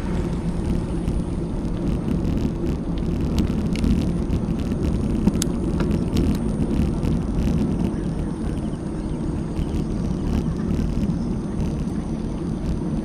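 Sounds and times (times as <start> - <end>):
bicycle tyres rolling on road: 0.0 - 13.0
light ticks and rattles: 0.0 - 13.0
wind buffeting microphone: 0.0 - 13.0.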